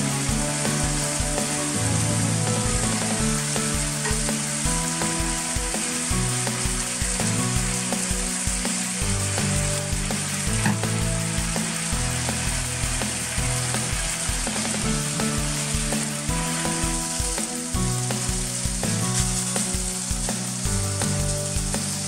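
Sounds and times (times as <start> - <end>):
background music with beat: 0.0 - 22.0
chicken sizzling in a frying pan: 0.0 - 22.0.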